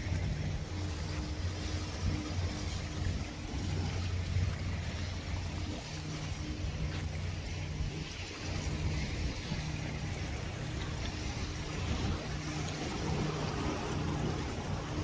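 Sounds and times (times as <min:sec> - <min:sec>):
continuous rushing hiss: 0:00.0 - 0:15.0
motorboat engine humming: 0:00.0 - 0:15.0.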